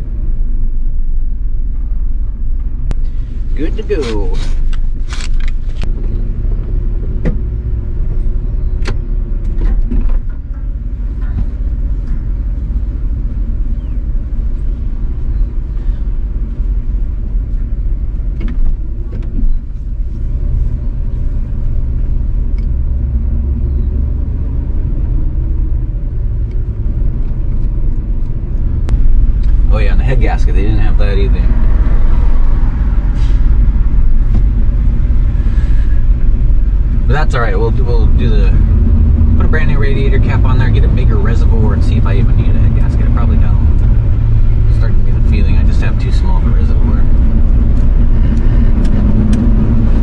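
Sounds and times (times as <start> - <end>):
truck engine rumbling: 0.0 - 50.0.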